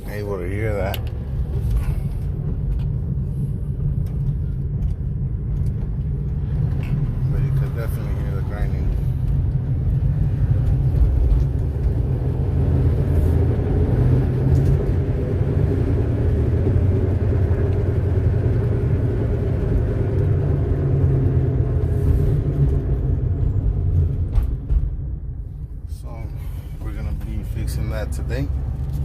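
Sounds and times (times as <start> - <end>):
road noise: 0.0 - 29.0
wheel hub grinding rumble: 0.0 - 29.0.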